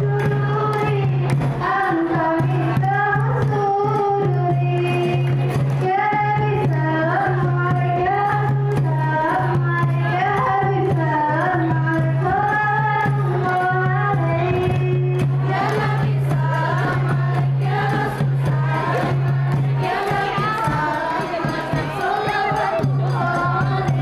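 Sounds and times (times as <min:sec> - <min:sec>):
fast hand claps: 0:00.0 - 0:06.8, 0:07.7 - 0:24.0
women singing in unison: 0:00.0 - 0:24.0.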